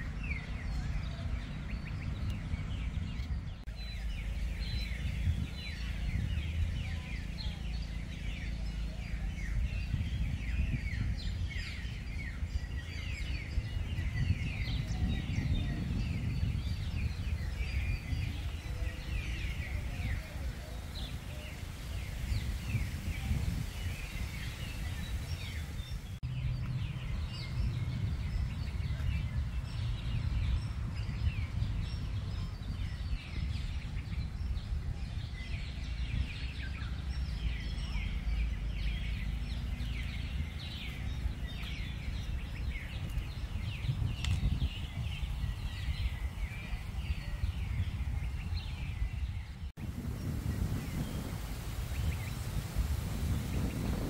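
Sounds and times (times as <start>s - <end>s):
birds chirping and calling: 0.0s - 54.0s
steady low rumble: 0.0s - 54.0s.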